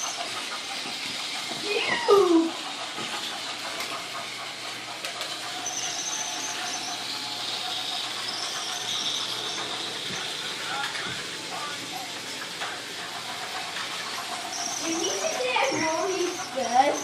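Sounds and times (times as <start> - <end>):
toy train motors whirring: 0.0 - 17.0.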